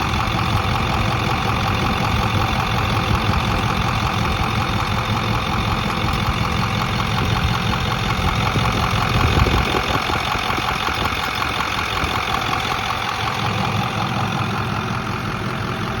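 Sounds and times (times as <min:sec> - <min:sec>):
rapid engine clicking: 0:00.0 - 0:16.0
truck engine idling: 0:00.0 - 0:16.0.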